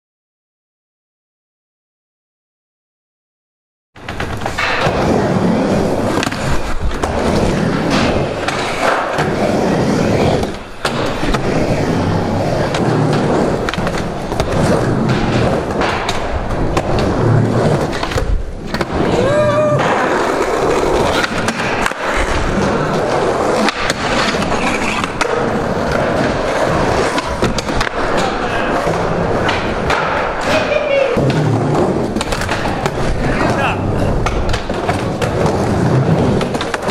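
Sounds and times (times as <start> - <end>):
skateboard wheels rolling on wood: 4.0 - 36.9.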